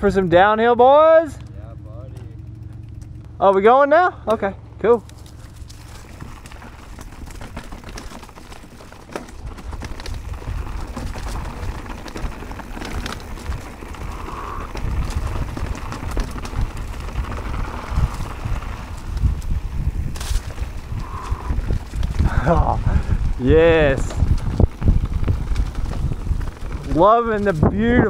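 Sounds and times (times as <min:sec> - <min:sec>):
bike knocking and rattling: 0:00.0 - 0:28.0
bike tyres crunching over dirt: 0:00.0 - 0:28.0
low ride rumble: 0:00.0 - 0:28.0.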